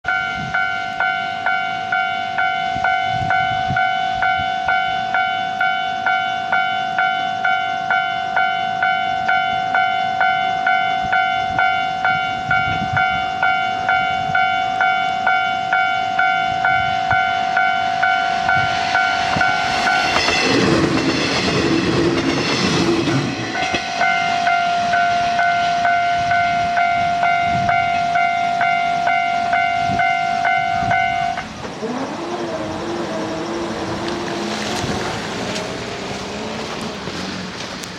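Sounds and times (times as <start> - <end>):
level-crossing warning bell: 0.0 - 34.7
diesel railcar rumbling: 0.0 - 37.9.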